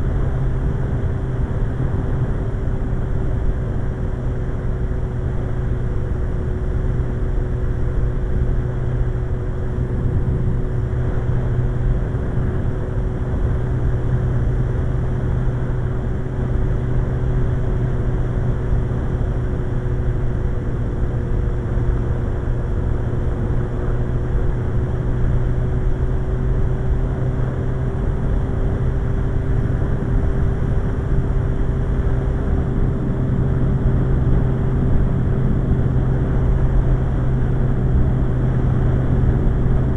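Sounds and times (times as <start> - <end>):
motorcycle engine cruising: 0.0 - 39.9
road and wind rush: 0.0 - 39.9.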